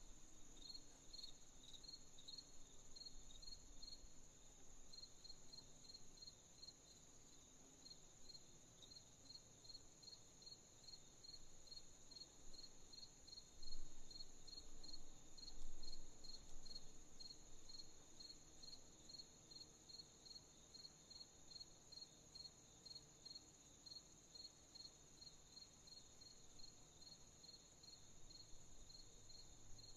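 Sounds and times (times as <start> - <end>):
cricket chirping: 0.0 - 29.9.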